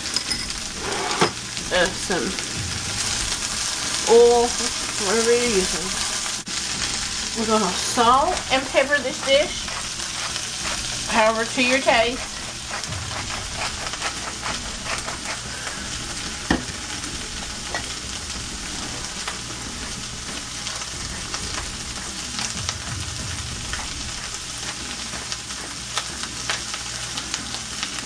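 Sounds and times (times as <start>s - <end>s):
cabbage sizzling in a skillet: 0.0s - 28.0s.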